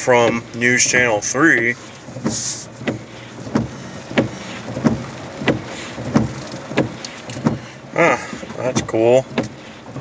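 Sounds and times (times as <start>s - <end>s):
car engine hum: 0.0s - 10.0s
rain hiss: 0.0s - 10.0s
windshield wipers thumping: 0.0s - 10.0s.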